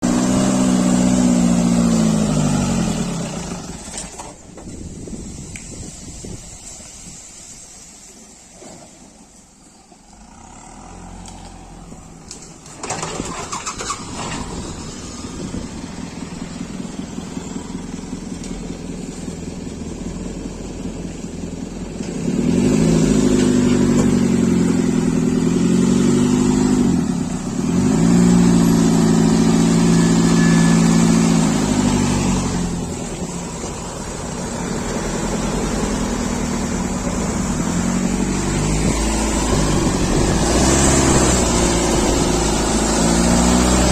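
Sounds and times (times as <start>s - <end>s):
diesel engine revving: 0.0s - 4.4s, 10.0s - 43.9s.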